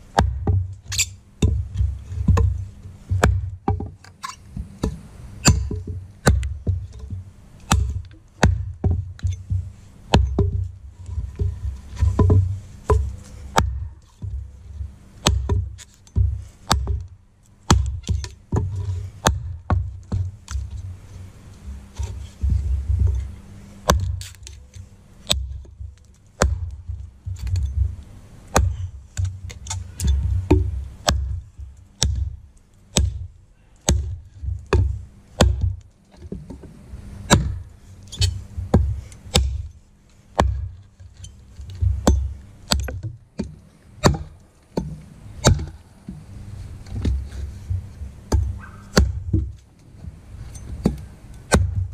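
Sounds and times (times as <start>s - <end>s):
hatchet chopping log: 0.0s - 20.8s, 21.6s - 40.9s, 41.5s - 49.6s, 50.5s - 51.9s.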